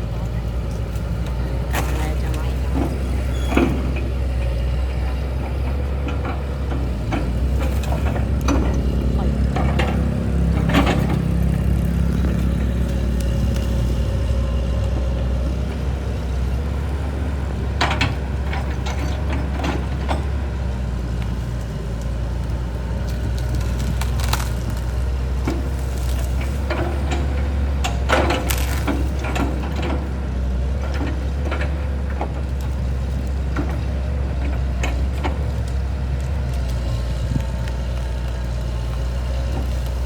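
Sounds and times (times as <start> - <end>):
engine droning: 0.0 - 40.0.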